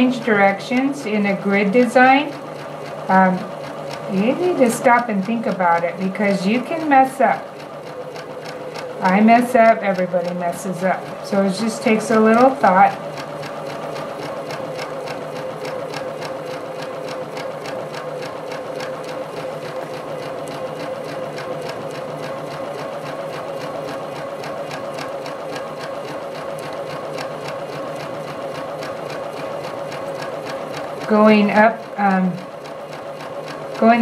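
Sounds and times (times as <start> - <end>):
sewing machine stitching: 0.0 - 34.0.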